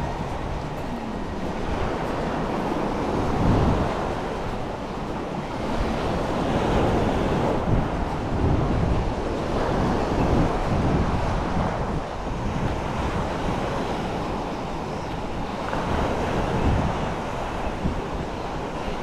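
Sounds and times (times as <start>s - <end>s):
waves washing onto beach: 0.0s - 19.0s
wind on microphone: 0.0s - 19.0s.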